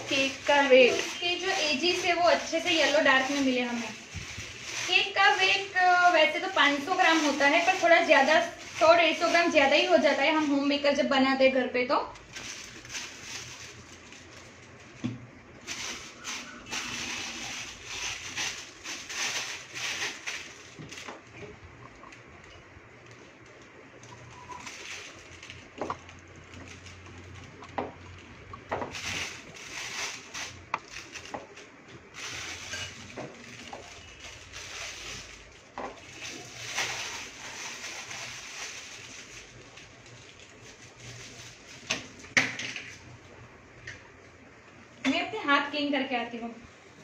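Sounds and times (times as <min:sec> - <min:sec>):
plastic bag crinkling: 0:00.0 - 0:11.1, 0:12.0 - 0:43.2.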